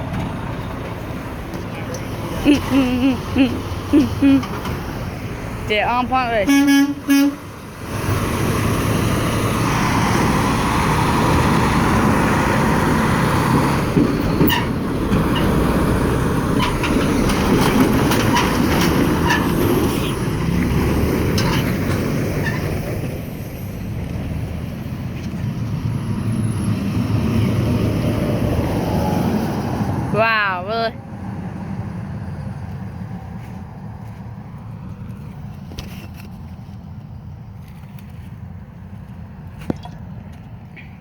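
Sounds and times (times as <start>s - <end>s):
forklift running and rattling: 0.0s - 33.2s.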